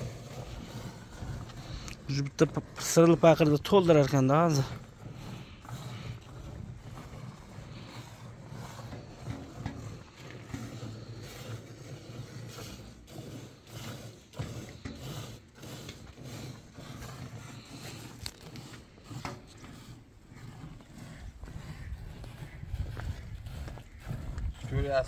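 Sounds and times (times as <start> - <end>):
milk squirting into a bucket: 0.0 - 3.0, 4.0 - 24.7.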